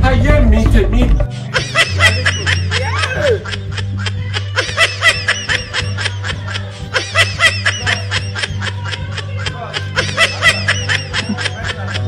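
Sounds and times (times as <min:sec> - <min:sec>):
background music: 0:00.0 - 0:12.0
person snickering: 0:01.4 - 0:12.0.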